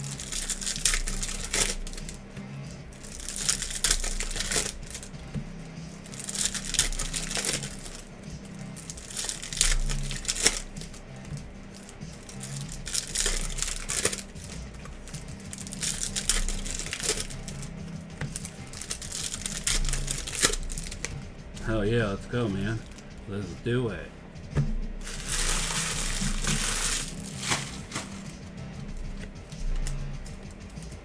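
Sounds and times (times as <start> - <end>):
foil wrappers crinkling and tearing: 0.0 - 2.3, 2.9 - 5.2, 6.0 - 23.1, 25.0 - 30.0.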